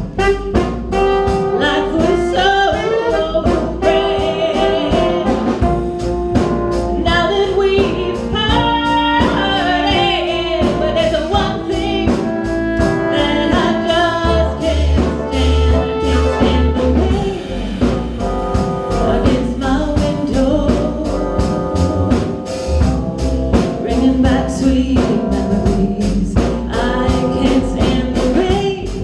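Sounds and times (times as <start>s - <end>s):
bass: 0.0s - 29.0s
live blues band playing: 0.0s - 29.0s
steady drum beat: 0.0s - 29.0s.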